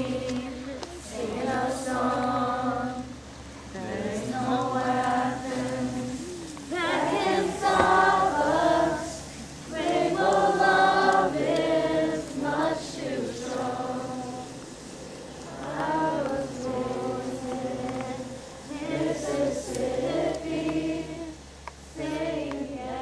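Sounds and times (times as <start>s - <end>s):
group singing slow song: 0.0s - 23.0s.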